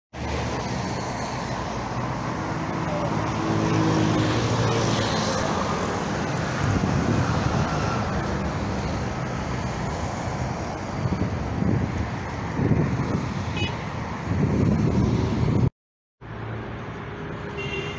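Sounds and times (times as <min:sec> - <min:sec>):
road traffic passing: 0:00.1 - 0:17.9
vehicle engine: 0:00.2 - 0:17.9.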